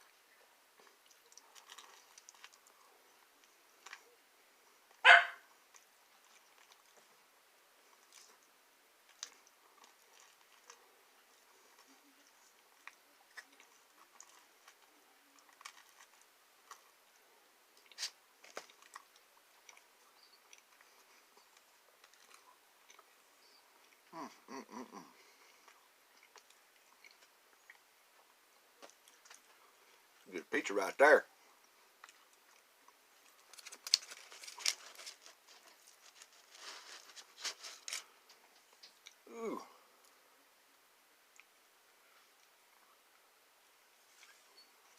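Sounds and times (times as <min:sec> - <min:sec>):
person chewing food: 0:00.0 - 0:04.2, 0:04.8 - 0:30.2, 0:31.6 - 0:40.2, 0:41.2 - 0:41.6.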